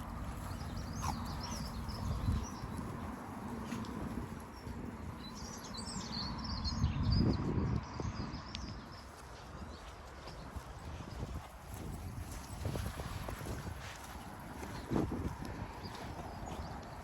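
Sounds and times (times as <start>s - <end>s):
songbirds chirping: 0.0s - 17.0s
wind rumble on microphone: 0.0s - 17.0s.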